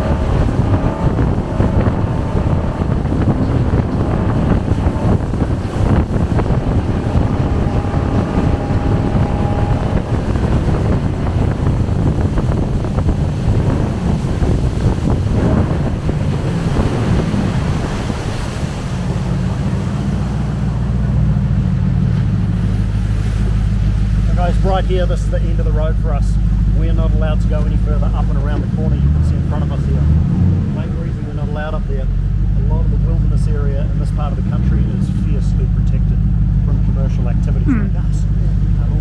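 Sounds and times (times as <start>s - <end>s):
jet boat engine: 0.0s - 39.0s
rushing water: 0.0s - 39.0s
wind buffeting microphone: 0.0s - 39.0s.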